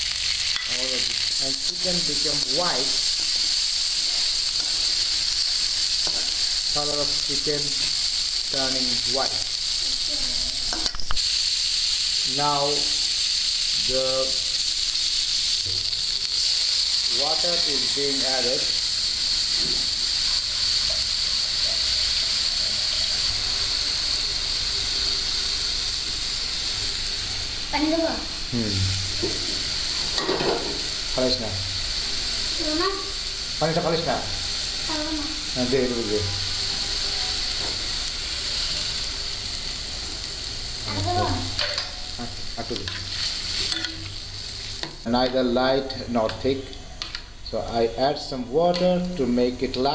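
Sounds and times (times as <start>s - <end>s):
soup sizzling in a wok: 0.0s - 49.9s.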